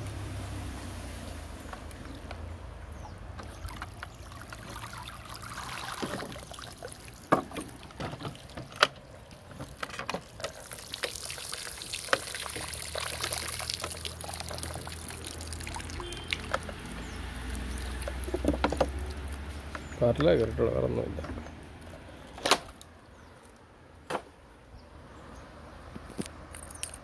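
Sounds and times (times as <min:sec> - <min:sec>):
water pouring and dripping: 0:00.0 - 0:22.0
stream water splashing: 0:00.0 - 0:22.1.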